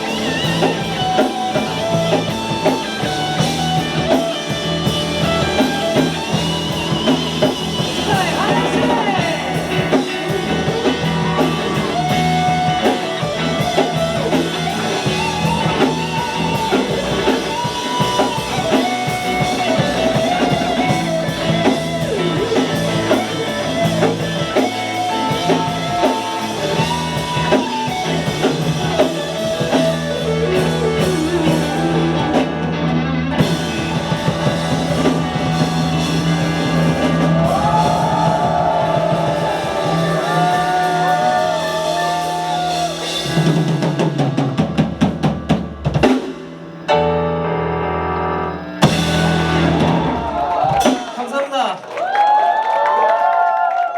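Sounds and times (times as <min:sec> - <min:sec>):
sliding melodic lead line: 0:00.0 - 0:51.0
rock band music: 0:00.0 - 0:52.6.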